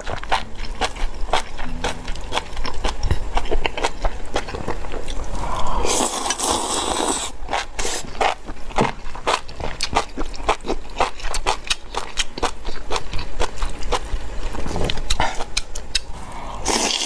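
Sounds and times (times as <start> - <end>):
chewing mouth sounds: 0.0 - 17.0.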